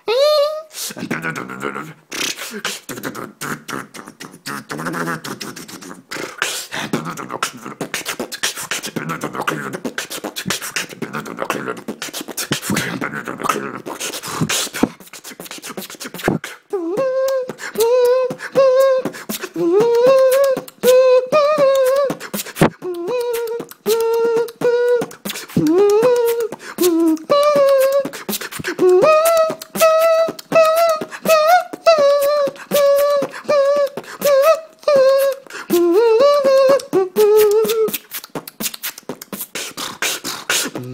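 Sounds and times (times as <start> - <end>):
person beatboxing: 0.0 - 40.9
person humming a melody: 0.0 - 40.9.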